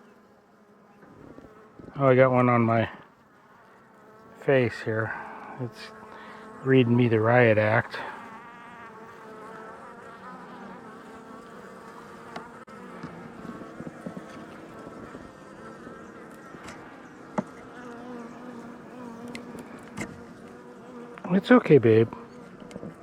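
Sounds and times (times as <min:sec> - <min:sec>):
bee buzzing close: 0:00.0 - 0:23.0
bees buzzing: 0:00.0 - 0:23.0.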